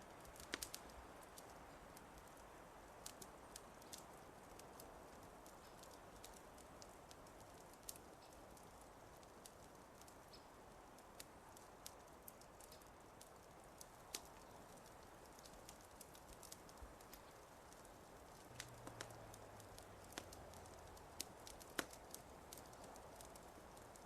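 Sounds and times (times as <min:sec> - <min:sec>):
soft steady hiss: 0:00.0 - 0:24.0
wood fire crackling: 0:00.0 - 0:24.0.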